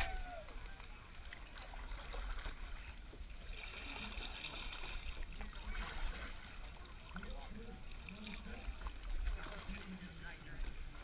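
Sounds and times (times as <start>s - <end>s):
water sloshing around boat: 0.0s - 11.0s.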